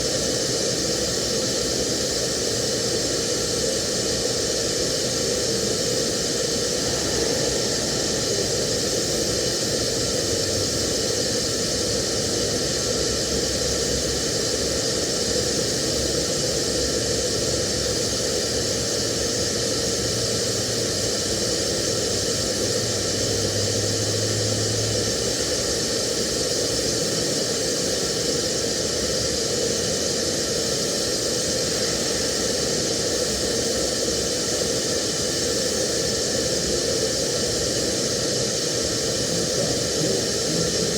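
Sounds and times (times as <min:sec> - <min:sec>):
welding arc hissing: 0:00.0 - 0:40.9.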